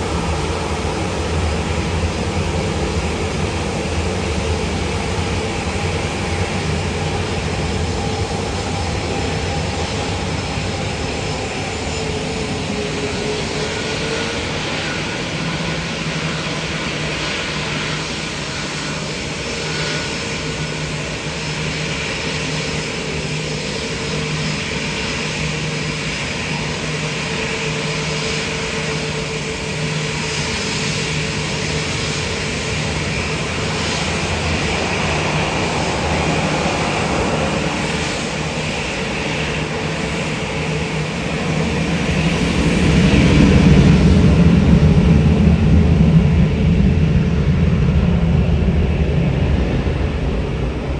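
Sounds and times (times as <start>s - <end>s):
jet engine rumble: 0.0s - 50.9s.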